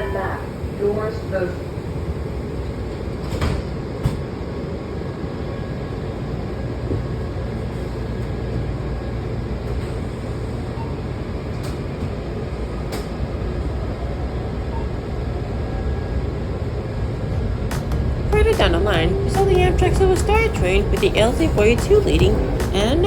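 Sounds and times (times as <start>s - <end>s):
train rumble and rail noise: 0.0s - 23.0s.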